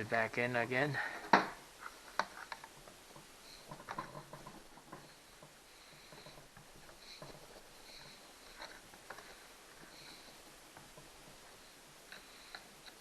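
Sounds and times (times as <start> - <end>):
small ticks: 1.8 - 13.0.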